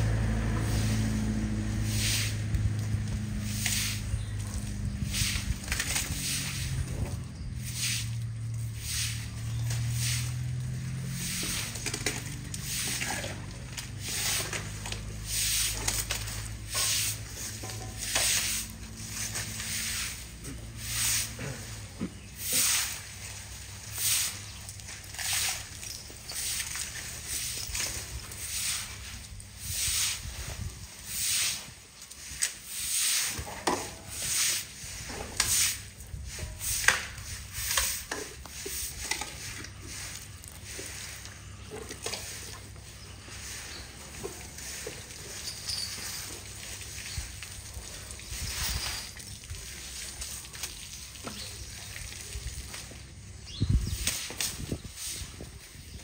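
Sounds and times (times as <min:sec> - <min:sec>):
broom sweeping wet concrete: 0:00.0 - 0:56.0.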